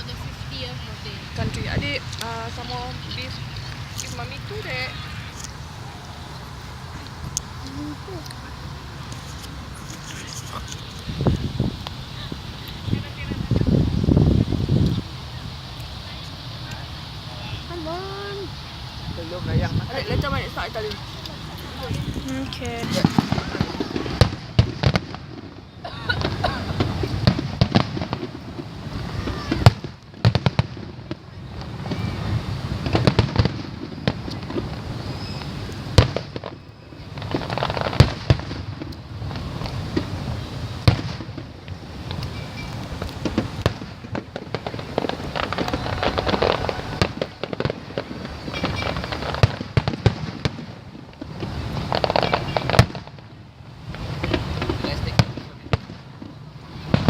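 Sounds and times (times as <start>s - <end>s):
fireworks bangs and pops: 0.0s - 57.0s
loud firework booms: 0.0s - 57.0s.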